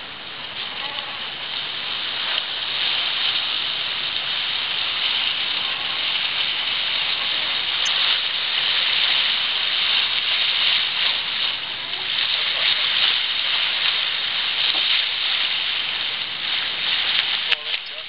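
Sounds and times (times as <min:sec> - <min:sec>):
water rushing along hull: 0:00.0 - 0:18.0.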